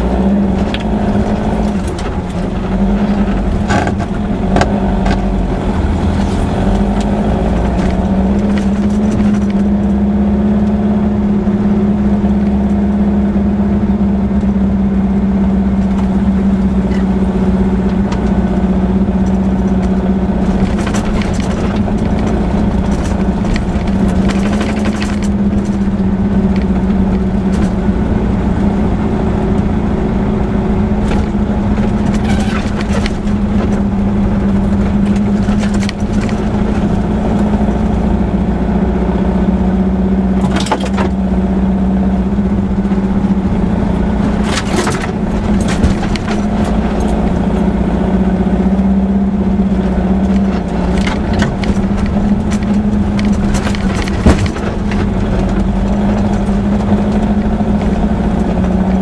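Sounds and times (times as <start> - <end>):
clicks and rattles over bumps: 0.0 - 10.8, 15.6 - 38.8, 39.7 - 59.0
car engine running: 0.0 - 59.0.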